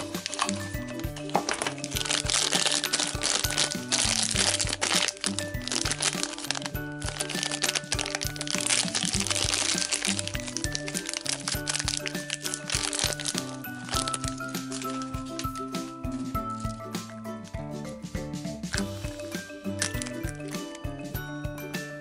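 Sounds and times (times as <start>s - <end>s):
plastic wrapper crackling: 0.0s - 16.9s, 19.8s - 20.7s
background music: 0.0s - 22.0s.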